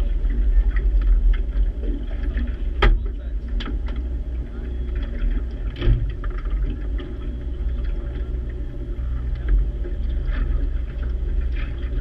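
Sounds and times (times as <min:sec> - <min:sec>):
steady low rumble: 0:00.0 - 0:12.0
water lapping and splashing: 0:00.0 - 0:12.0.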